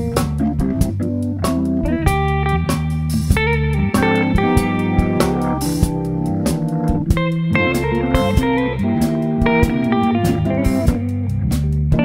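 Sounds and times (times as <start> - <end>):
bass line: 0.0 - 12.0
jazz organ combo playing blues: 0.0 - 12.0.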